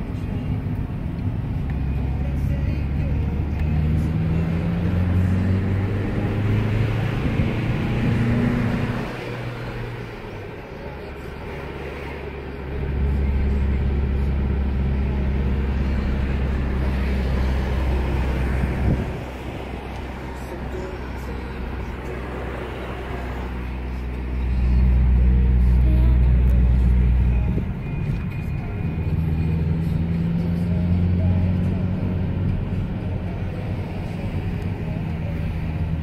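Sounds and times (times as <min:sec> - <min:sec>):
car engine: 0:00.0 - 0:36.0
road noise inside car: 0:00.0 - 0:36.0.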